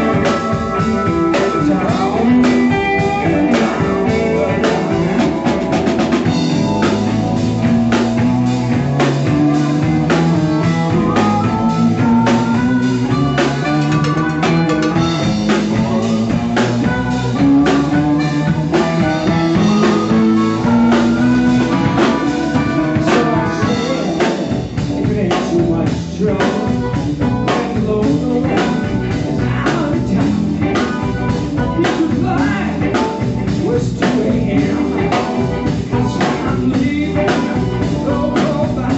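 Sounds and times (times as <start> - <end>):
bass: 0.0 - 38.9
drum kit beat: 0.0 - 38.9
electric guitar: 0.0 - 38.9.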